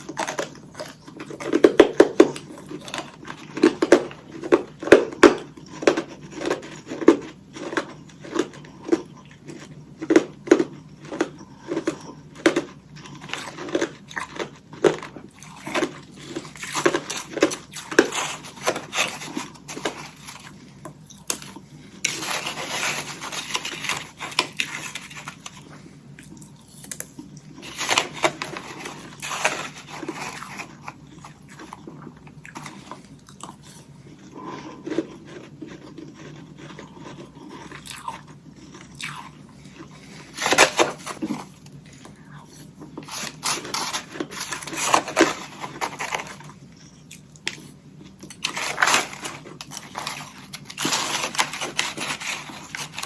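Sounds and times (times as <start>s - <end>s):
ice crunching being chewed: 0.0s - 53.0s.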